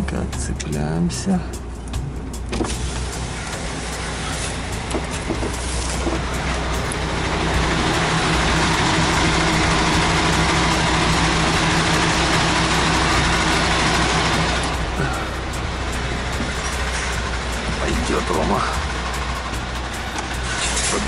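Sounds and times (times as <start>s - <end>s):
truck diesel engine running: 0.0s - 21.0s
rushing noise: 2.6s - 21.0s.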